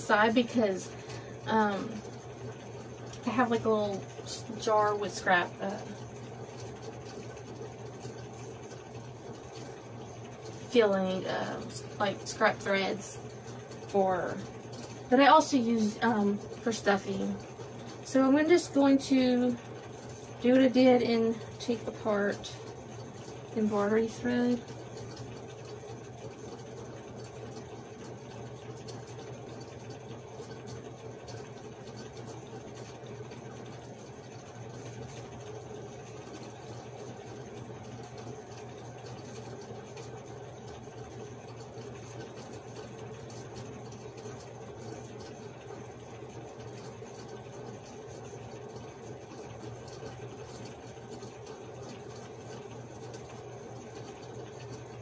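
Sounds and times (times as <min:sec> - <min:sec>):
small motor humming: 0:00.0 - 0:55.0.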